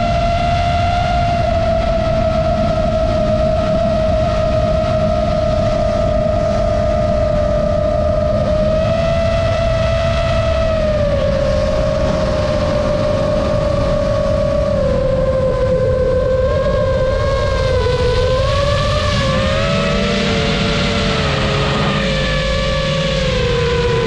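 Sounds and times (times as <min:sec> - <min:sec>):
drone motors whining: 0:00.0 - 0:24.0
propeller wash and wind: 0:00.0 - 0:24.0.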